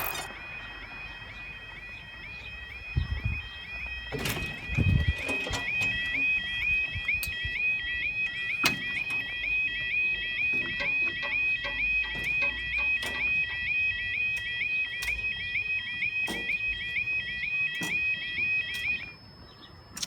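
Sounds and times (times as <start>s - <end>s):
level crossing alarm warbling: 0.0s - 19.3s.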